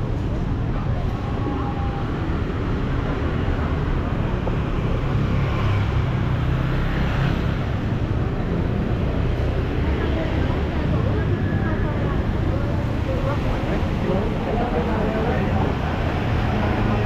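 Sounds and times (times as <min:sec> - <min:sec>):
scooters and cars passing: 0:00.0 - 0:17.0.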